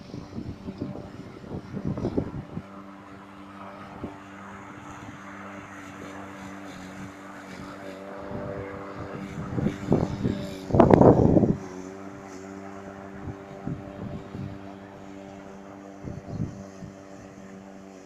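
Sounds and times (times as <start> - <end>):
electric lawn mower humming: 0.0 - 18.0.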